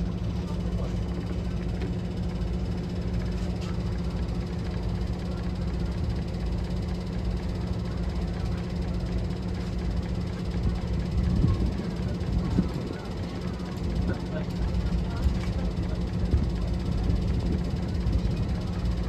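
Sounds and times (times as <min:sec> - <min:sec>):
diesel train engine droning: 0:00.0 - 0:19.0.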